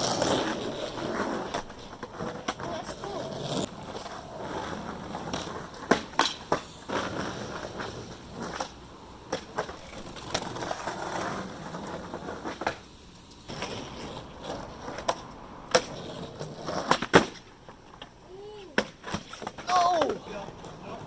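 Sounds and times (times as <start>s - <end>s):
skateboard clacking on ground: 0.0s - 21.0s
skateboard wheels rumbling: 0.0s - 21.0s.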